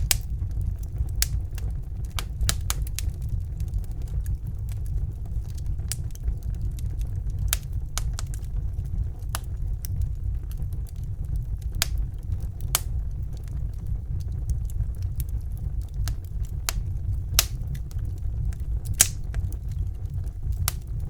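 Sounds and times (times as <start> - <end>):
low rumble of fire: 0.0 - 21.0
wood fire crackling: 0.0 - 21.0.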